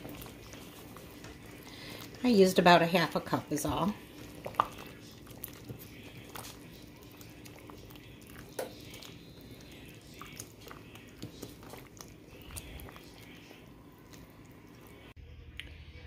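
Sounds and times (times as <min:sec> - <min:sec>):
spatula stirring thick soup: 0:00.0 - 0:15.2.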